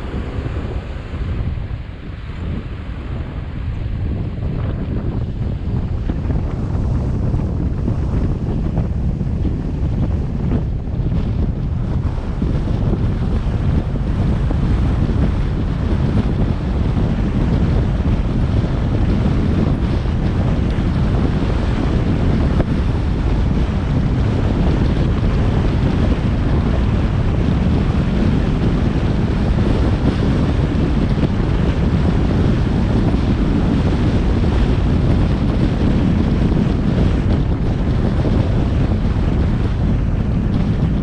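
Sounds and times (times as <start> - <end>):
car road and wind noise: 0.0 - 41.0
wind buffeting microphone: 0.0 - 41.0.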